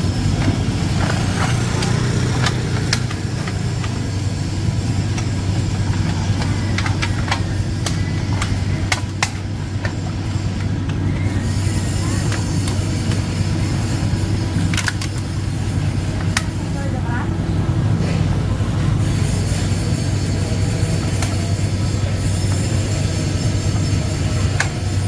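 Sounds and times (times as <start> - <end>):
low motor drone: 0.0 - 25.0.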